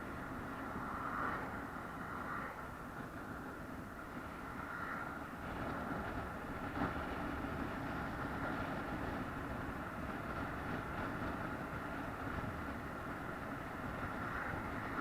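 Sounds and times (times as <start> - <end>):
faint steady whine: 0.0 - 15.0
vehicle rumble: 0.0 - 15.0.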